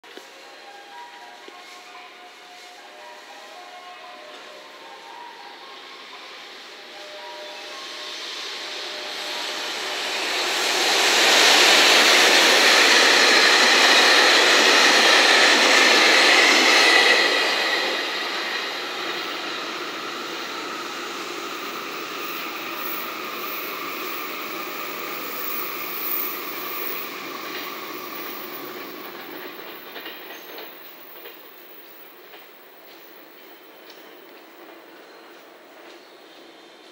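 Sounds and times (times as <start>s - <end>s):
freight train passing on rails: 0.0s - 36.9s.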